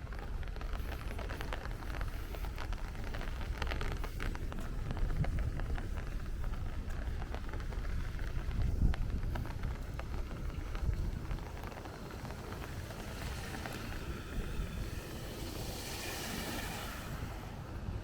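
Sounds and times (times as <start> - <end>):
tyres hissing on wet street: 0.0 - 18.0
wind rumble on microphone: 0.0 - 18.0.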